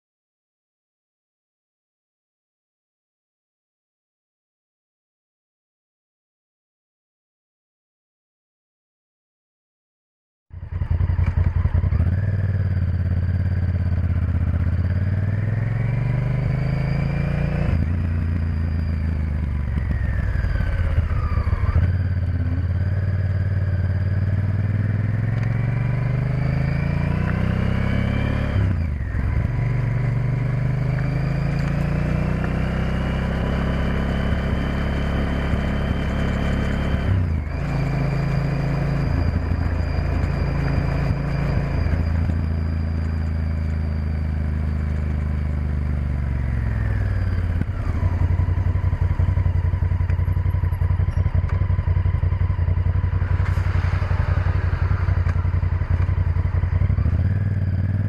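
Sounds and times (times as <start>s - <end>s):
motorcycle engine accelerating: 10.5s - 58.0s.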